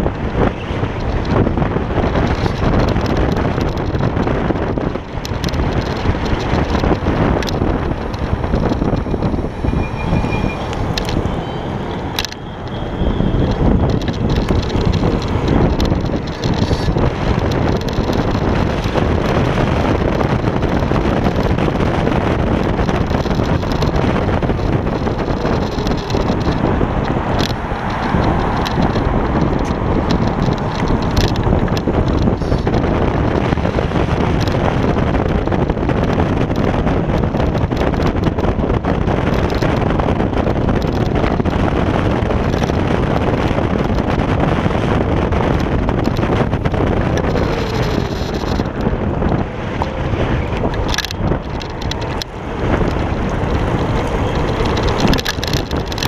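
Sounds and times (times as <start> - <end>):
tyre noise on asphalt: 0.0 - 56.0
wind rumble on microphone: 0.0 - 56.0.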